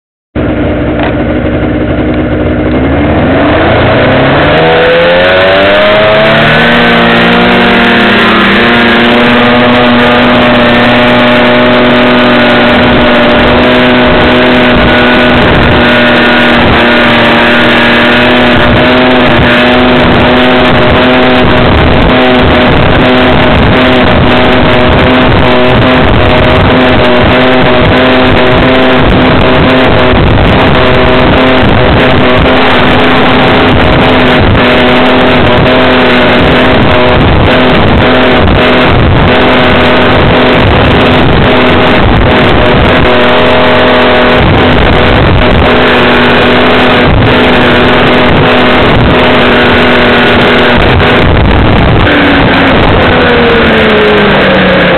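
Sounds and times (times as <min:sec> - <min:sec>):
snowmobile engine accelerating: 0:00.4 - 0:54.9.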